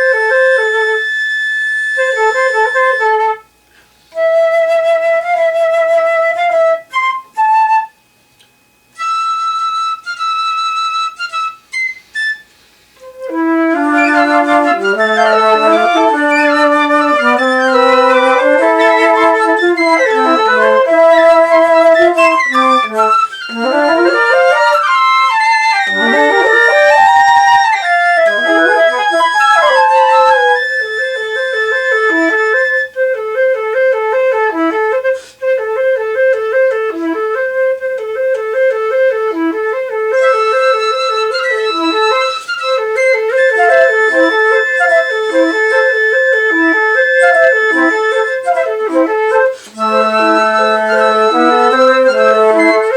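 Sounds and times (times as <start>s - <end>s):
layered flutes playing chords: 0.0s - 8.0s, 9.0s - 52.9s.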